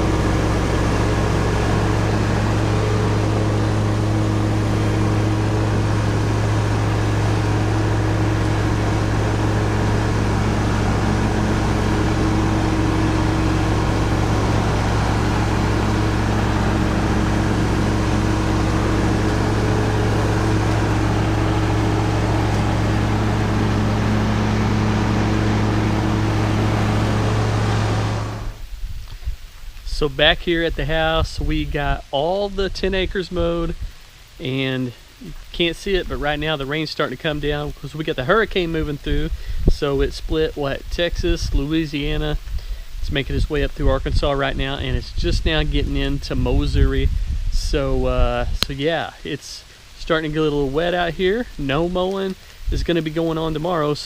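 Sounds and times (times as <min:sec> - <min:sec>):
engine droning: 0:00.0 - 0:28.8, 0:29.4 - 0:54.0.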